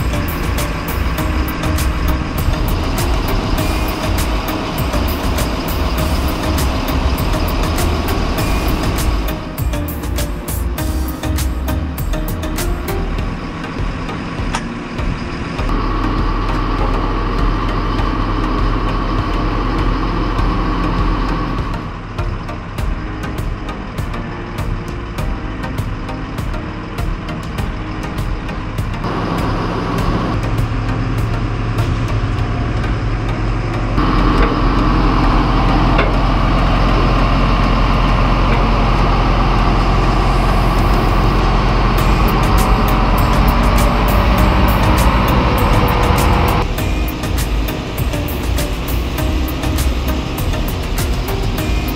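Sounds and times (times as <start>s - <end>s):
diesel crane engine running: 0.0s - 51.9s
steady whine: 0.0s - 51.9s.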